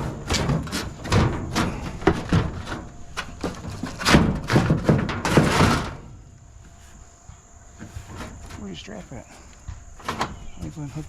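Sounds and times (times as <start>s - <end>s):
scrap metal clanking and scraping: 0.0s - 7.0s, 7.7s - 11.0s.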